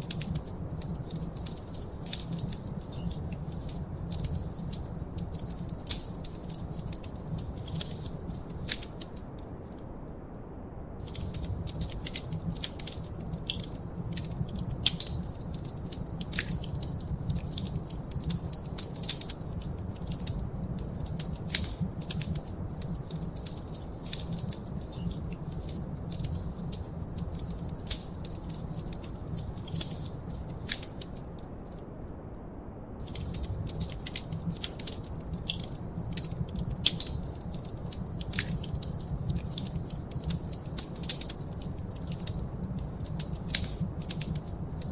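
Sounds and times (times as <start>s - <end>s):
wood fire crackling: 0.0s - 9.8s, 11.0s - 32.0s, 33.0s - 44.9s
low rumble of flame: 0.0s - 44.9s.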